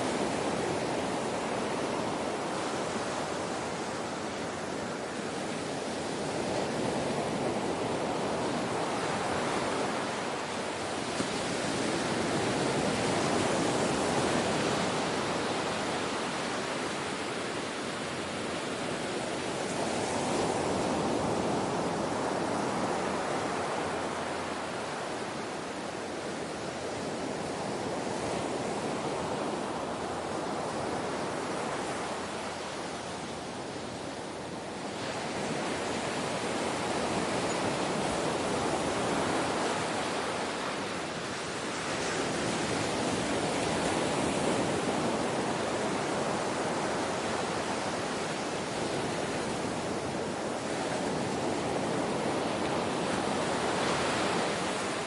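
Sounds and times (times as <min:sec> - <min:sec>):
ocean waves breaking: 0:05.4 - 0:55.0.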